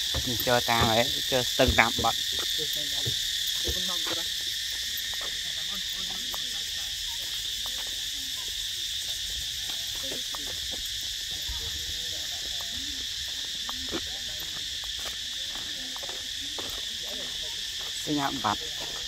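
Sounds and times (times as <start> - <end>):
insects chorus drone: 0.0 - 19.0.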